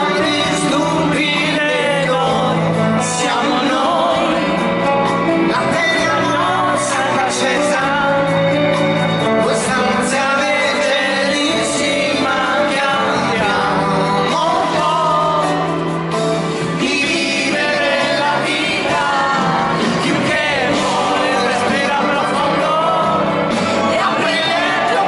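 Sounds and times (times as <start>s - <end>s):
band playing: 0.0s - 25.0s
man singing: 0.0s - 25.0s.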